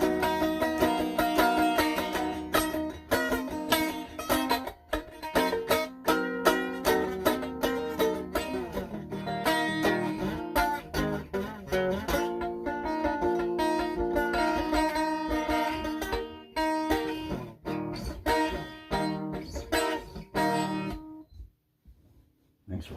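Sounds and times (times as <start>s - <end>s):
plucked guitar melody: 0.0s - 21.5s.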